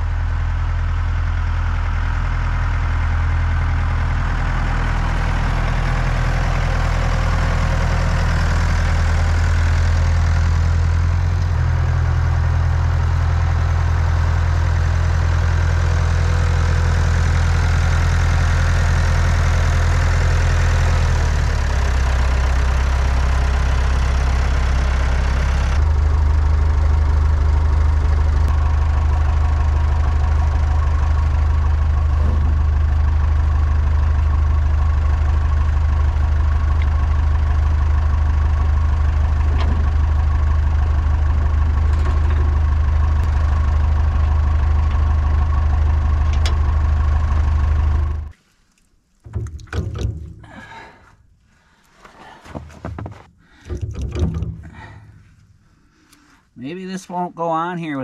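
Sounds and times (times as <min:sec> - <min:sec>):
tractor engine idling: 0:00.0 - 0:48.6, 0:49.2 - 0:58.0.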